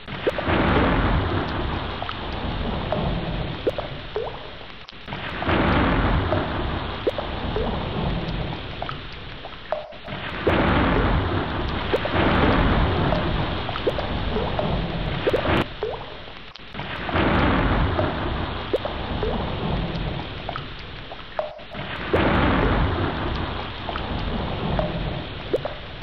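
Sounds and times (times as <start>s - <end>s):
heavy rain: 0.0s - 26.0s
scattered raindrops: 0.0s - 26.0s
rolling thunder: 0.1s - 4.1s, 5.1s - 9.0s, 10.0s - 15.7s, 16.8s - 20.6s, 21.5s - 25.7s.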